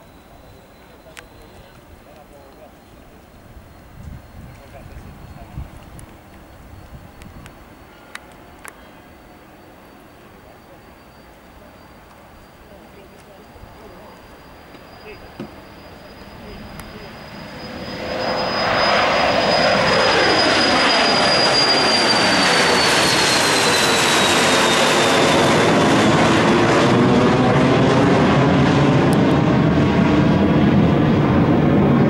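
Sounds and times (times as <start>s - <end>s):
jet roar with high whine: 0.0s - 32.0s.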